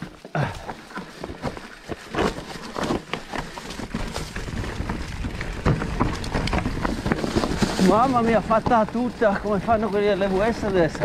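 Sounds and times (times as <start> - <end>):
bike rattling over roots: 0.0 - 11.0
tyres through dry leaves: 0.0 - 11.0.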